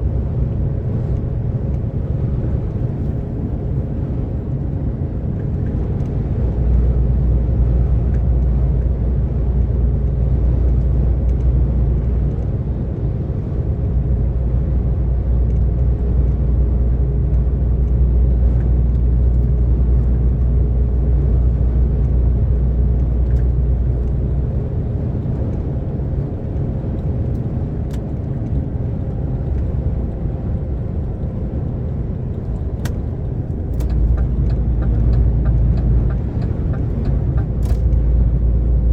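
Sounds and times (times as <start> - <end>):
diesel lorry engine cruising: 0.0 - 38.9
road and tyre rumble: 0.0 - 38.9.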